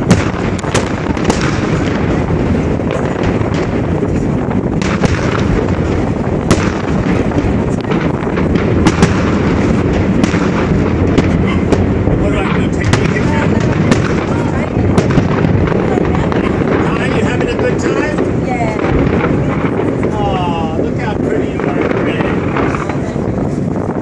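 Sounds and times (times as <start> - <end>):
firework bangs and cracks: 0.0 - 24.0
low rumble: 0.0 - 24.0.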